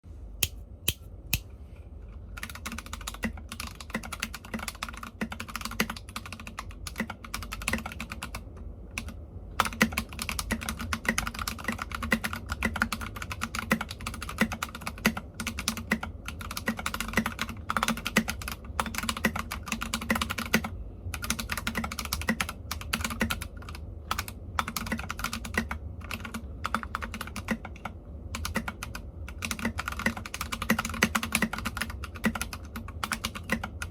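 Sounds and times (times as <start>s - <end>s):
mechanical keyboard typing: 2.4s - 33.9s.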